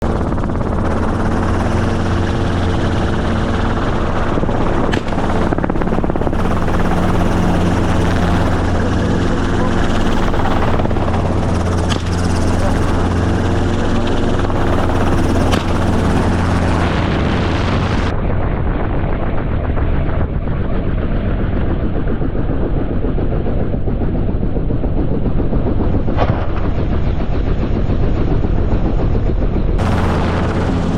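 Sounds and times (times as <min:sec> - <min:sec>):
helicopter rotor and engine: 0:00.0 - 0:30.9.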